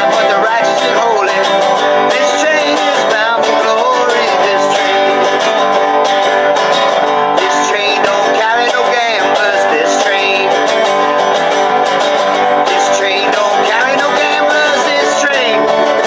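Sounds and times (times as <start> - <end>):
banjo: 0.0 - 16.0
strummed resonator guitar: 0.0 - 16.0.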